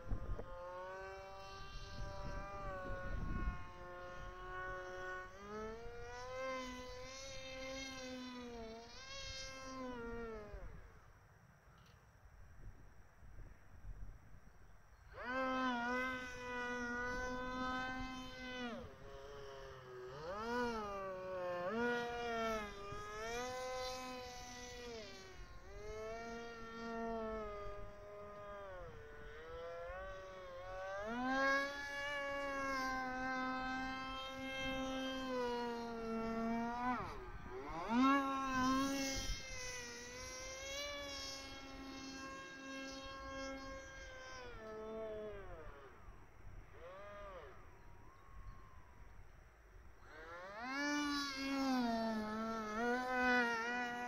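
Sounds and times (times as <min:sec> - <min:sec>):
model airplane motor whining: 0:00.0 - 0:54.0.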